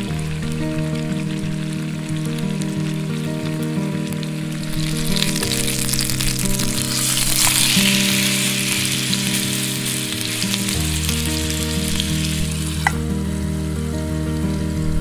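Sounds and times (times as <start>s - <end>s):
background music: 0.0s - 15.0s
chicken sizzling in oil: 0.0s - 15.0s.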